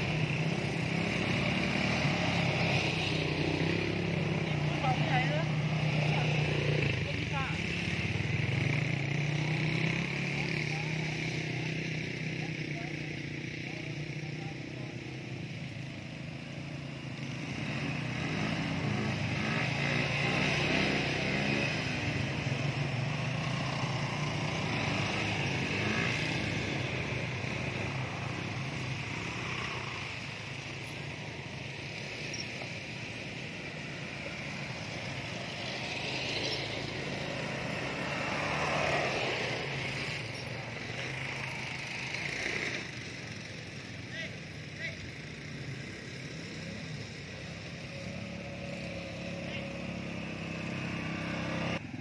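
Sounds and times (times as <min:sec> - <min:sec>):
quad bike engine passing: 0:00.0 - 0:52.0.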